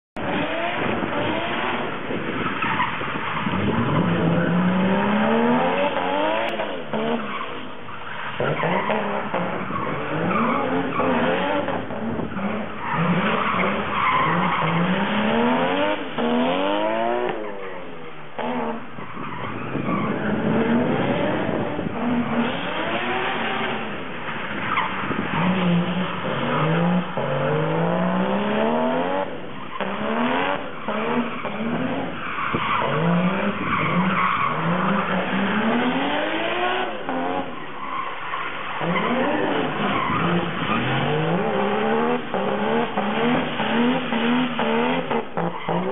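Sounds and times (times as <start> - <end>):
car engine revving: 0.2 - 45.9
tyres skidding and squealing: 0.2 - 45.9.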